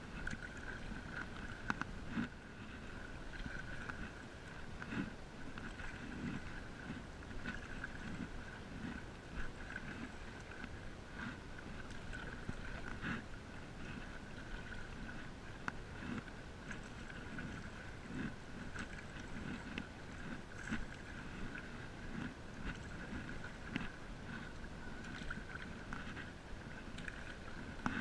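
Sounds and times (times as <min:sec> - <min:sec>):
paddle pulling through water: 0:00.0 - 0:28.0
small water splashes: 0:00.0 - 0:28.0
small waves lapping: 0:00.0 - 0:28.0.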